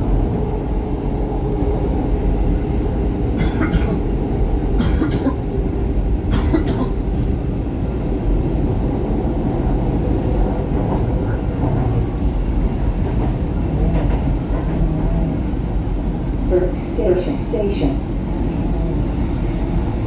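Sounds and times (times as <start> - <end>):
train wheels rumbling on rail: 0.0 - 20.0
train clatter: 1.6 - 20.0.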